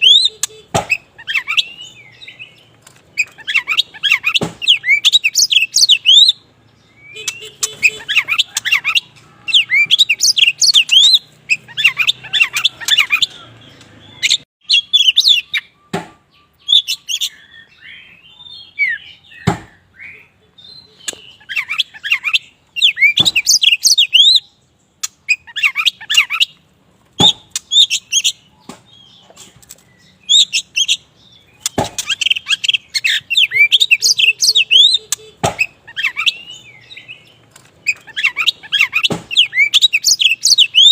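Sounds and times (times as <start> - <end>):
songbird singing chirps and whistles: 0.0 - 26.6, 27.2 - 40.9.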